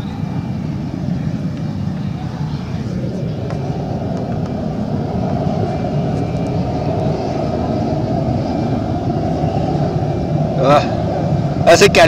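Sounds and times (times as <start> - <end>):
gas burner flame rushing: 0.0 - 12.0.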